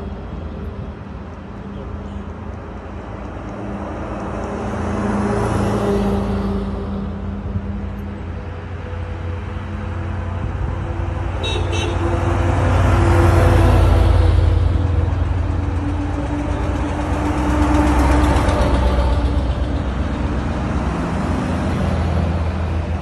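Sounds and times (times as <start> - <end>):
heavy trucks driving past: 0.0 - 23.0.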